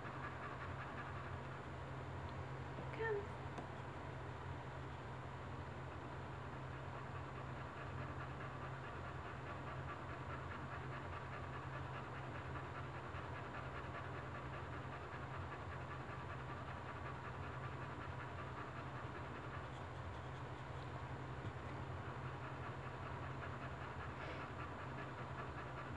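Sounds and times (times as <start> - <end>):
dog panting rapidly: 0.0 - 25.9
steady low hum: 0.0 - 25.9.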